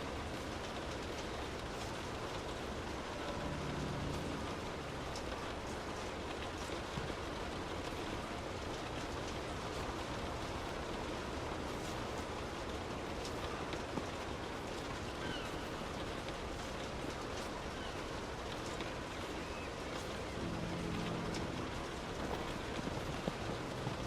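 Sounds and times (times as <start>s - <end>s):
rain on a car roof: 0.0s - 24.0s.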